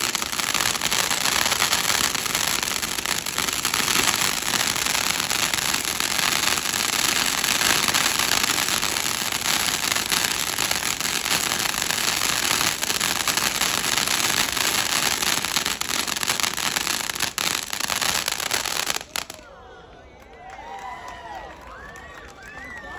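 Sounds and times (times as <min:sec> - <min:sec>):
fountain firework hissing and crackling: 0:00.0 - 0:19.4.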